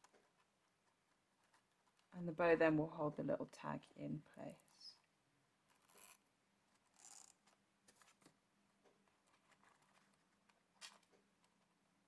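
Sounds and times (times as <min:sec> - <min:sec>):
twine and paper tag rustling: 0:00.0 - 0:11.8.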